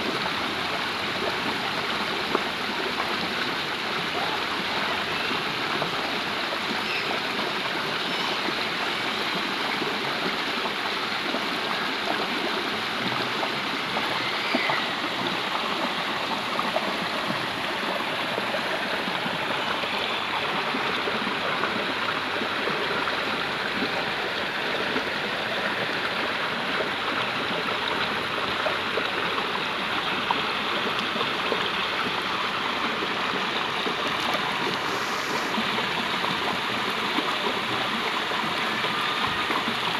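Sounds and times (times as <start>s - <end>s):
small water splashes: 0.0s - 39.9s
stream flowing over rocks: 0.0s - 39.9s.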